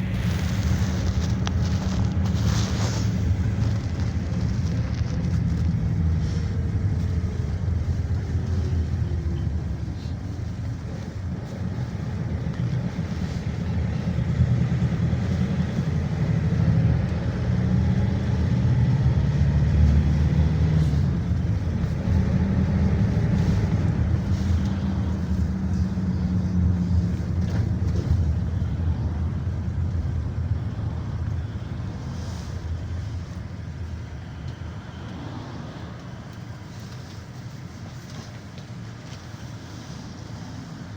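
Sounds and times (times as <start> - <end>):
bus engine: 0.0 - 40.9
road rumble: 0.0 - 40.9.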